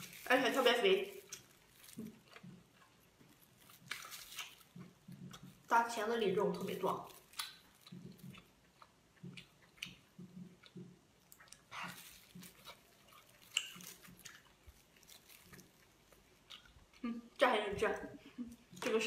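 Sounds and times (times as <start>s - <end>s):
person chewing softly: 1.0s - 5.8s, 6.4s - 17.4s.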